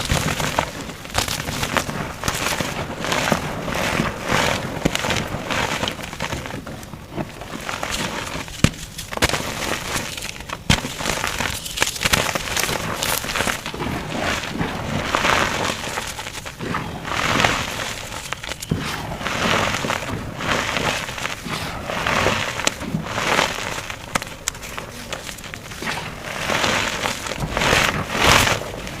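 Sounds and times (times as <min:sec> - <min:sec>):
sharp cracks: 0:00.0 - 0:06.6, 0:07.5 - 0:29.0
chalk crunching and crumbling: 0:00.0 - 0:29.0.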